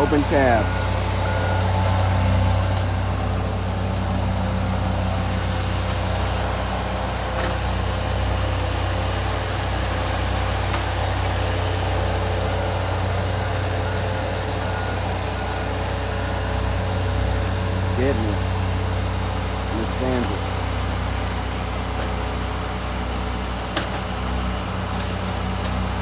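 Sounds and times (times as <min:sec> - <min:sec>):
heavy vehicle engine humming: 0:00.0 - 0:26.0.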